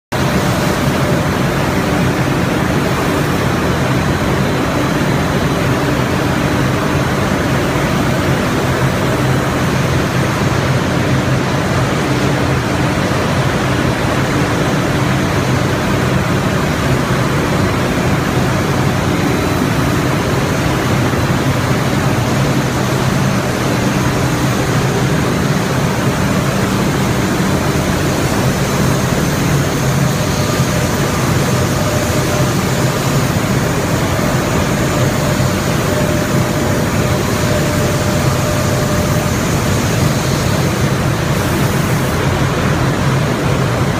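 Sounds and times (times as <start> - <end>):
production line and fans rushing: 0.1 - 43.9.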